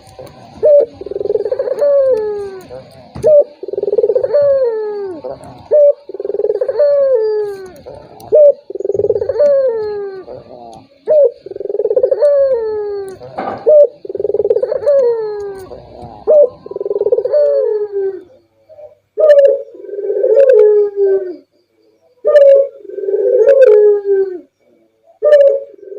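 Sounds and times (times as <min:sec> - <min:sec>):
dove cooing: 0:00.0 - 0:25.9.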